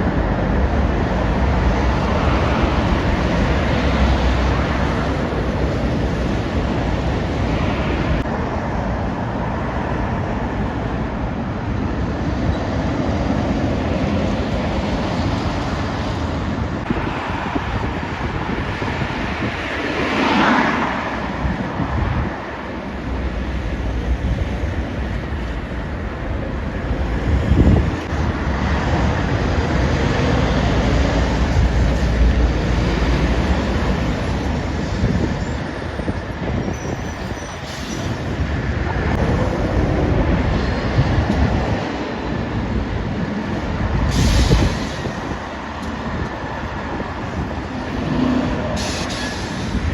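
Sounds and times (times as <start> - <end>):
heavy trucks and traffic passing: 0.0 - 49.9.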